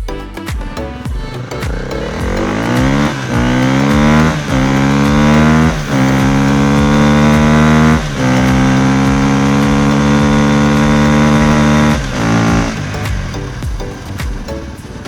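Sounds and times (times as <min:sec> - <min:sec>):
car engine accelerating: 0:01.0 - 0:15.0.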